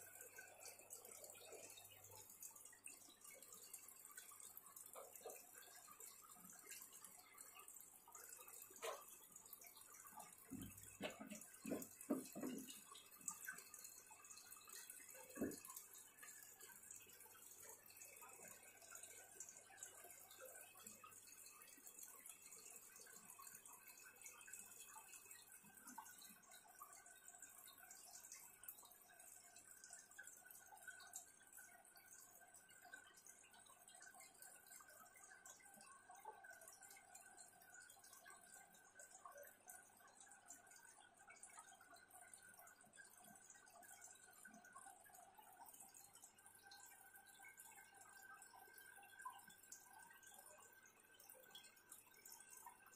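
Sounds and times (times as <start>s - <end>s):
water trickling and dripping: 0.0s - 52.9s.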